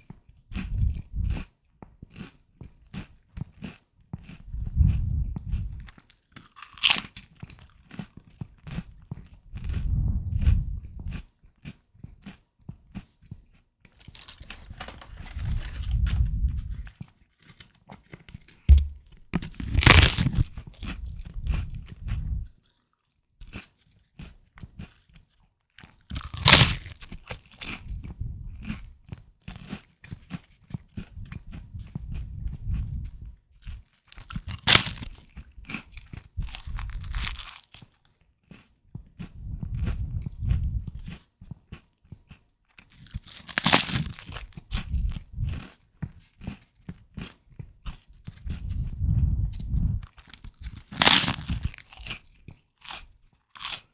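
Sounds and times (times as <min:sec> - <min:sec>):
crackly chewing: 0:00.5 - 0:49.0, 0:49.6 - 0:53.9
person crunching puffed rice: 0:02.1 - 0:13.1, 0:13.9 - 0:17.7, 0:18.4 - 0:22.8, 0:23.4 - 0:25.2, 0:25.8 - 0:28.0, 0:29.6 - 0:45.8, 0:50.0 - 0:53.9.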